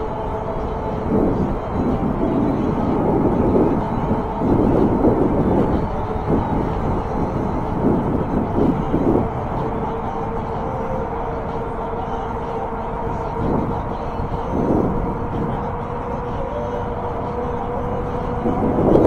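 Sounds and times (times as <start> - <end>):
road rumble: 0.0 - 19.0
steady whine: 0.0 - 19.0
traffic noise: 0.0 - 19.0
wind rushing over microphone: 0.0 - 19.0.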